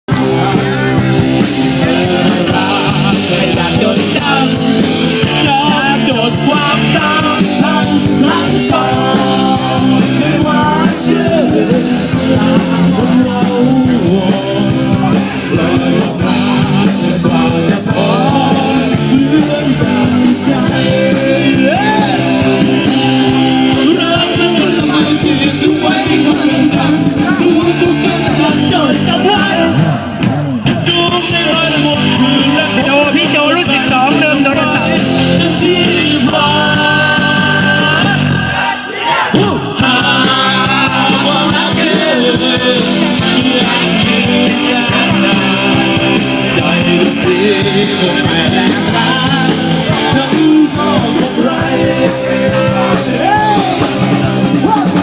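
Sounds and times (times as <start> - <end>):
live rock band playing: 0.1 - 55.0
person singing: 0.1 - 55.0.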